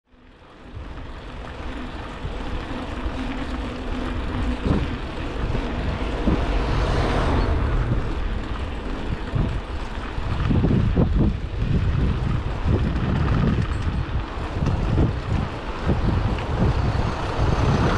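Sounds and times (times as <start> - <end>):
tyres rumbling on road: 0.1 - 17.9
wind buffeting microphone: 0.2 - 17.9
car passing: 0.4 - 17.9.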